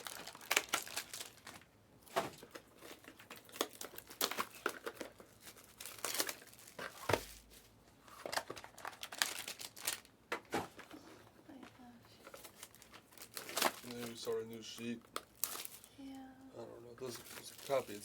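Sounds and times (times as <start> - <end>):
plastic wrapping crinkling and tearing: 0.0 - 10.1, 12.2 - 16.0, 17.0 - 18.0.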